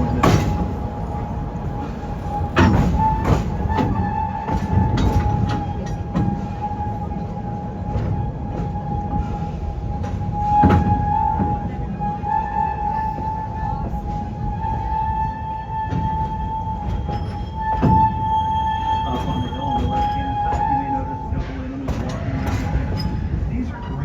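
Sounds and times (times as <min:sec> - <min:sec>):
train wheels knocking and clacking: 0:00.0 - 0:23.5
train low rumble: 0:00.0 - 0:24.0.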